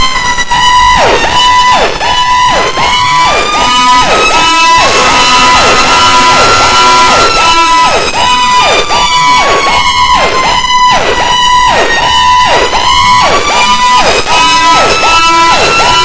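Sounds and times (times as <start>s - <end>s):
electronic siren yelping: 0.0s - 16.0s
siren tone sliding slowly: 0.0s - 16.0s.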